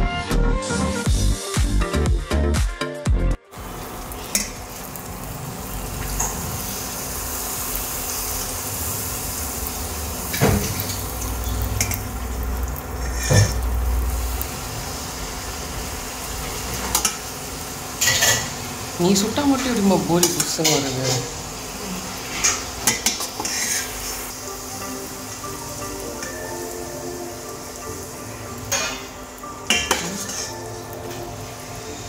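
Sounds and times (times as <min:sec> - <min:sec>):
food sizzling in hot oil: 0:03.5 - 0:32.0.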